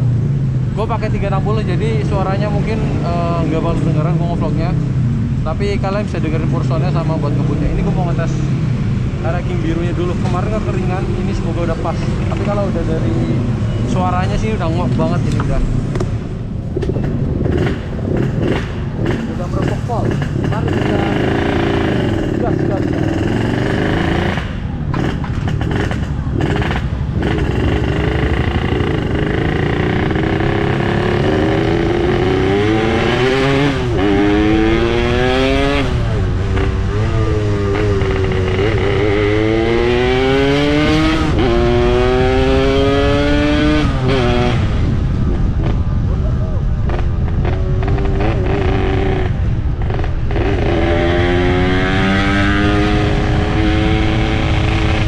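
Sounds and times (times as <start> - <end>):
motorcycle engine accelerating: 9.7 - 55.0.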